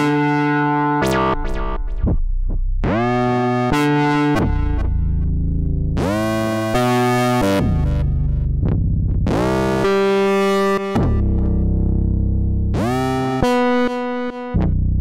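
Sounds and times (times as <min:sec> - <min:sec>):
low synth bass: 0:00.0 - 0:15.0
synthesizer chords: 0:00.0 - 0:15.0.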